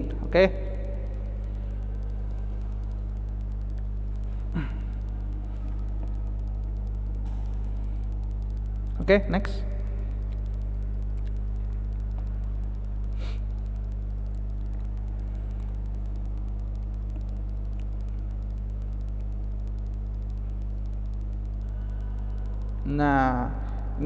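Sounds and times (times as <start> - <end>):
low hum and rumble: 0.0 - 24.0.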